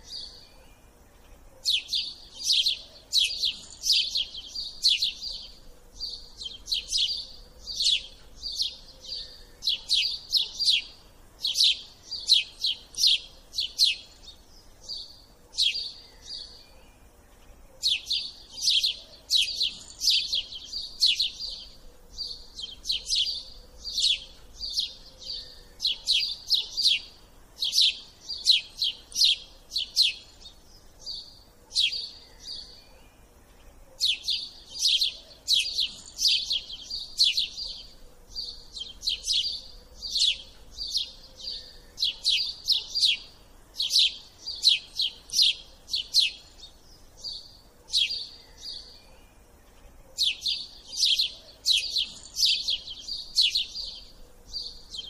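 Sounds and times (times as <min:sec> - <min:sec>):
small bird chirping: 0:00.0 - 0:55.0.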